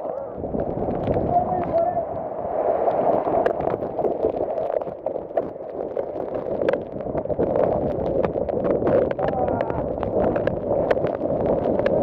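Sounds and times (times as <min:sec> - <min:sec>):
storm wind gusting through trees: 0:00.0 - 0:12.0
wind buffeting microphone: 0:00.3 - 0:12.0.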